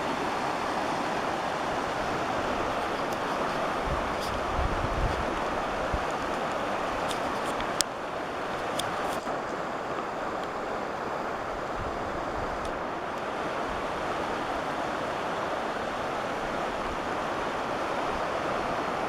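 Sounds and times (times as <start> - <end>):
rushing floodwater: 0.0 - 19.0.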